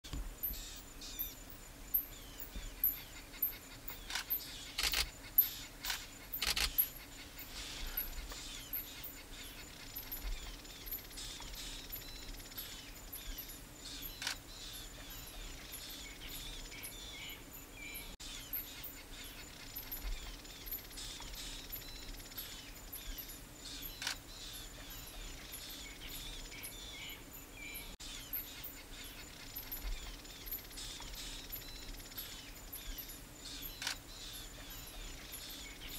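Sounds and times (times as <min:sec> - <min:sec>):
small birds chirping: 0:00.1 - 0:35.9.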